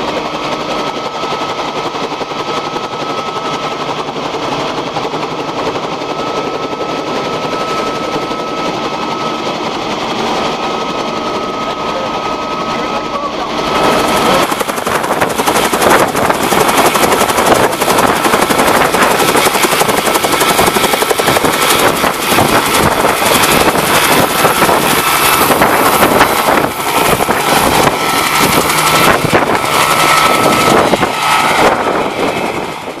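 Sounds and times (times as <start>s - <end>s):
helicopter rotor chopping: 0.0s - 33.0s
piston engine drone: 3.9s - 33.0s.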